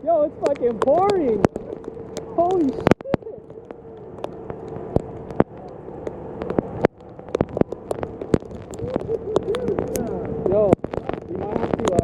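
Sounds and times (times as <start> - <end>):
steady hum: 0.0 - 12.0
heavy rain with hail: 0.4 - 12.0.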